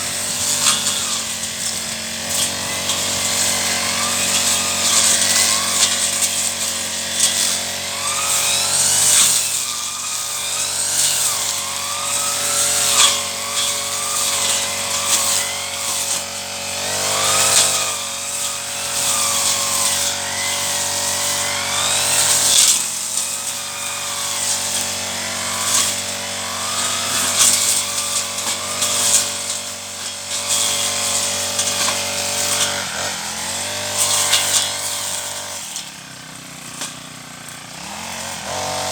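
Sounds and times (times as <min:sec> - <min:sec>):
brush cutter cutting weeds: 0:00.0 - 0:38.9.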